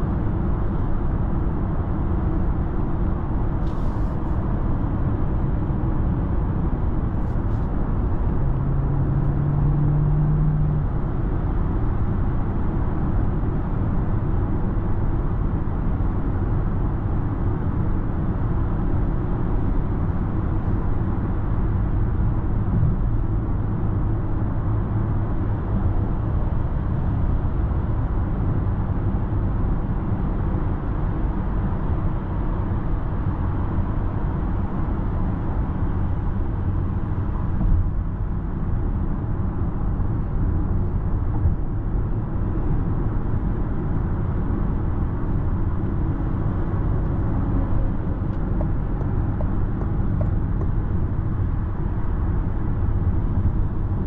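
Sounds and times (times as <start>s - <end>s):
low tyre roar: 0.0s - 54.0s.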